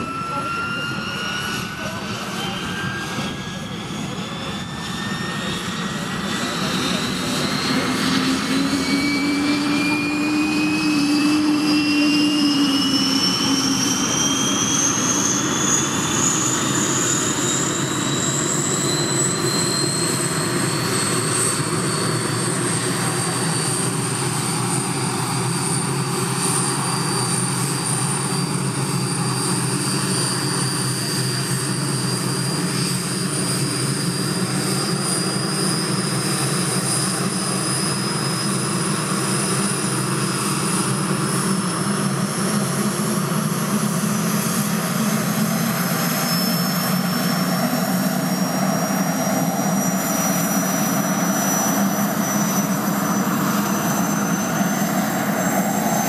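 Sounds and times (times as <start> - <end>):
helicopter engine whine spooling up: 0.0 - 56.0.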